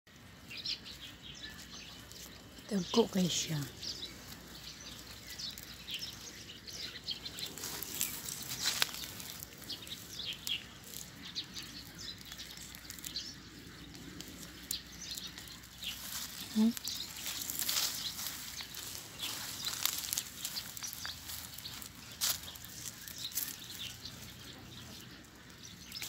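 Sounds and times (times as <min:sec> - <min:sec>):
small birds chirping: 0:00.1 - 0:26.0.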